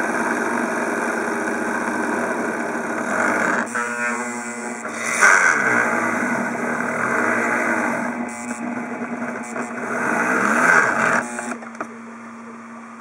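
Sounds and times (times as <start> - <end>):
rotary tool drilling metal: 0.0 - 11.7.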